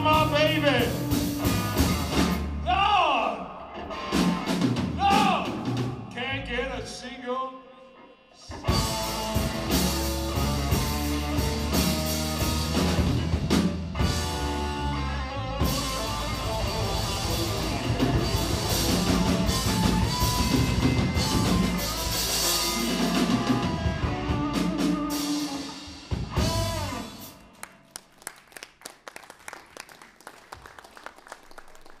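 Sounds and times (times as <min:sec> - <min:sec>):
blues band playing: 0:00.0 - 0:06.7, 0:08.4 - 0:27.7.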